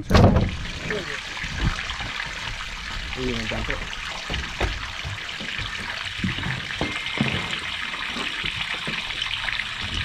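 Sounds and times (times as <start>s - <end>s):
ice water pouring and splashing: 0.0s - 10.0s.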